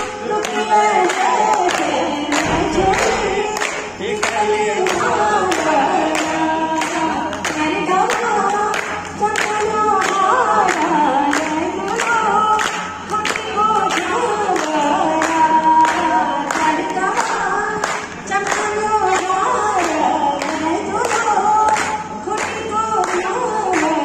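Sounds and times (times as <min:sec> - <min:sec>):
hands clapping in time: 0:00.0 - 0:24.0
voices singing together: 0:00.0 - 0:24.0.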